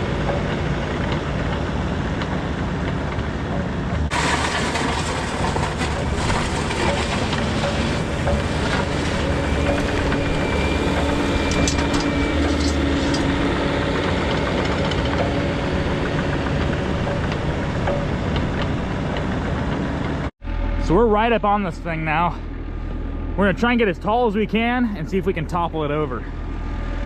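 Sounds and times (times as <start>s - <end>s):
excavator diesel engine running: 0.0s - 27.0s
level whine: 0.0s - 27.0s.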